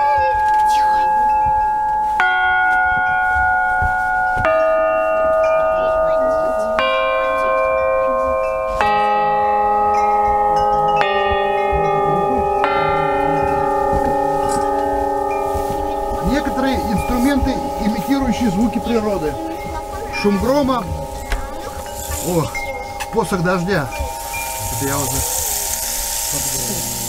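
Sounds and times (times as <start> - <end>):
chime plates struck with mallet: 0.0 - 27.0.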